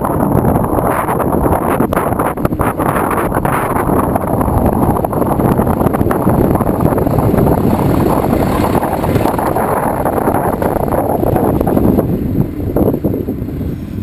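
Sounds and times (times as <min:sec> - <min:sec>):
tyres rumbling on asphalt: 0:00.0 - 0:14.0
wind rushing over microphone: 0:00.0 - 0:14.0.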